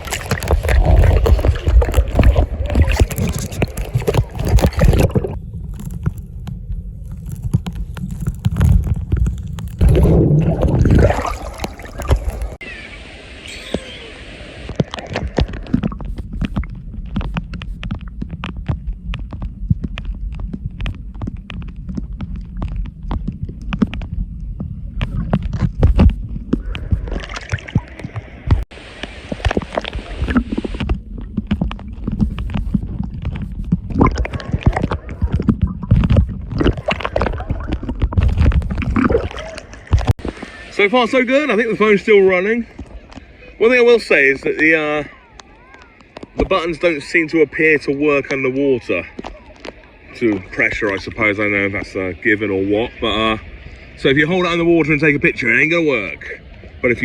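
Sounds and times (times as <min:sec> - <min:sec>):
muffled underwater sloshing: 0:00.0 - 0:57.0.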